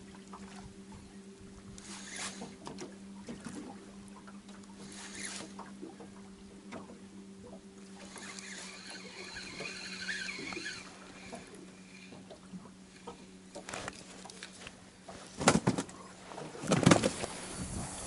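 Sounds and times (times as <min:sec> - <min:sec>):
low hum: 0:00.0 - 0:18.0
waves lapping against hull: 0:00.0 - 0:18.0.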